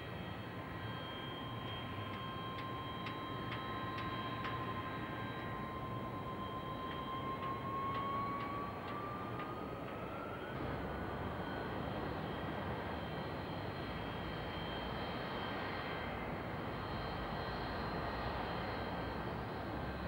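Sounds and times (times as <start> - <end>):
jet airliner engines rushing: 0.0 - 20.0.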